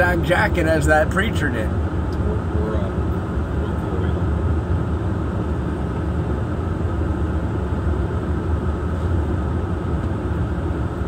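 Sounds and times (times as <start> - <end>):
vehicle rumble from inside car: 0.0 - 11.0.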